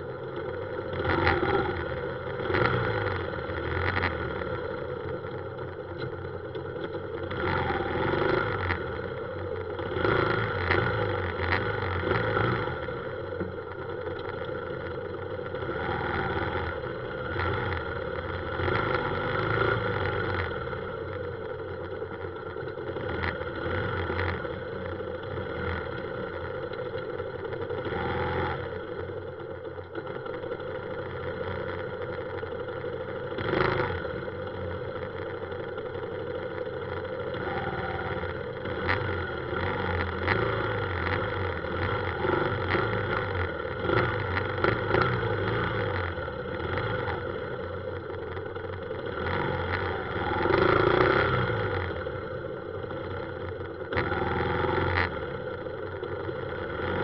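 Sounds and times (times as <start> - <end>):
motorbike engine running: 0.0 - 57.0
road and traffic noise: 0.0 - 57.0.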